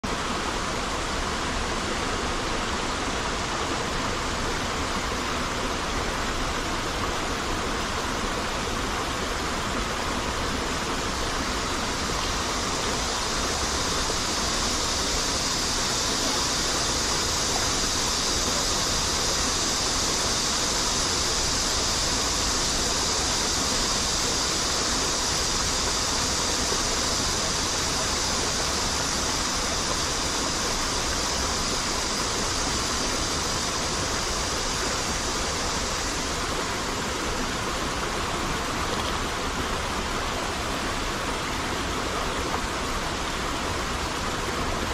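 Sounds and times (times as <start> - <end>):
cicadas droning: 0.0 - 44.9
stream running over rocks: 0.0 - 44.9.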